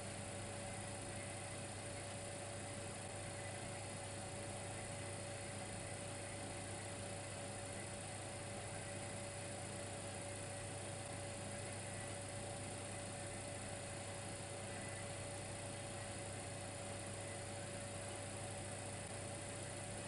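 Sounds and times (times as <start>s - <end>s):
electric fireplace hum: 0.0s - 20.0s
thin electrical whine: 0.0s - 20.0s.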